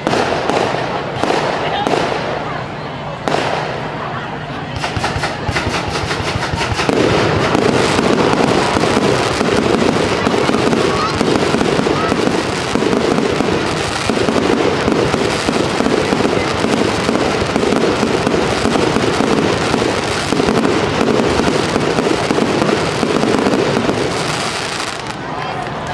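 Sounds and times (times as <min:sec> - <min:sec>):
fireworks barrage: 0:00.0 - 0:25.9.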